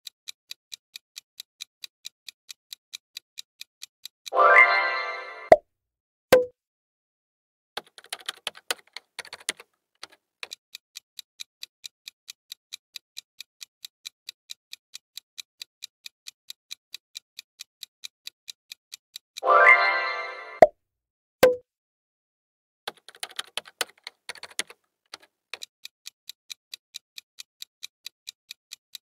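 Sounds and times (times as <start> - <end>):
clock ticking: 0.0 - 4.8, 7.8 - 20.7, 22.9 - 29.0.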